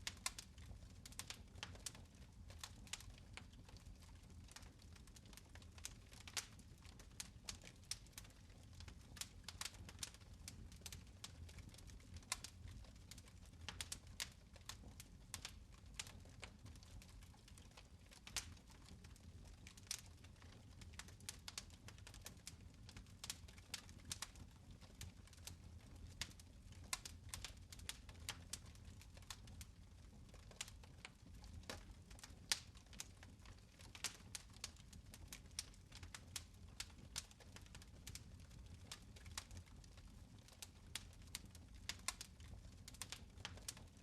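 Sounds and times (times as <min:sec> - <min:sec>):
fire crackling and popping: 0:00.0 - 0:44.0.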